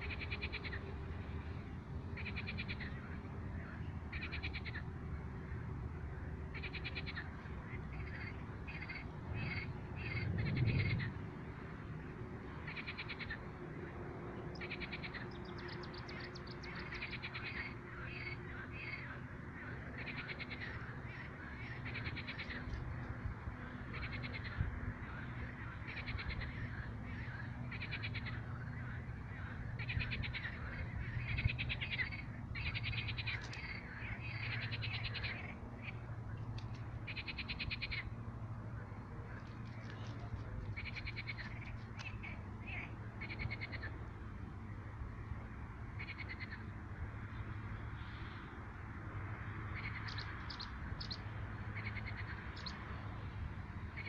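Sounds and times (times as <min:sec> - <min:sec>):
frogs croaking: 0:00.0 - 0:54.0
steady low hum: 0:00.0 - 0:54.0.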